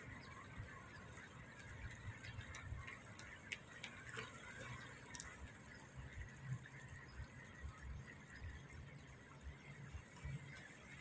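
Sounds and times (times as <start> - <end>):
faint low outdoor rumble: 0.0 - 11.0.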